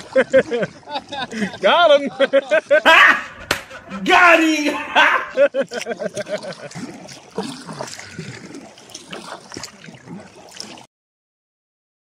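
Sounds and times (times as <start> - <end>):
paddle splashes: 0.0 - 10.9
river water splashing around kayaks: 0.0 - 10.9.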